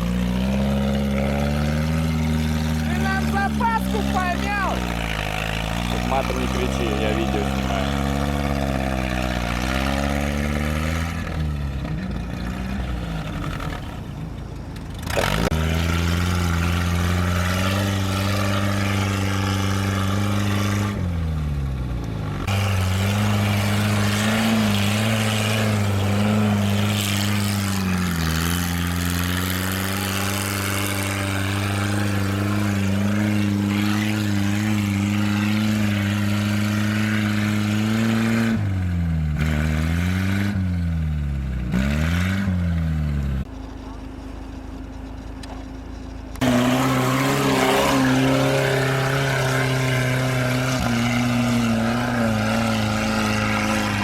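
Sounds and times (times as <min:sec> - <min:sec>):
off-road engine revving under load: 0:00.0 - 0:54.0.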